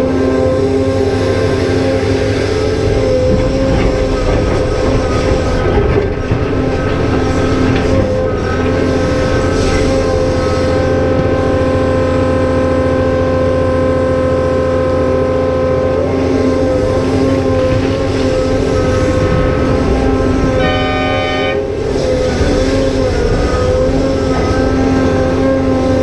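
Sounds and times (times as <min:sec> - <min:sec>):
excavator diesel engine under load: 0:00.0 - 0:26.0
hydraulic pump whine: 0:00.0 - 0:26.0.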